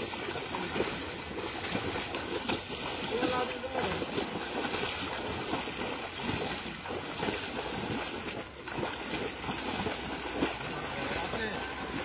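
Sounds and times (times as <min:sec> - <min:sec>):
people wading through muddy water: 0:00.0 - 0:12.0.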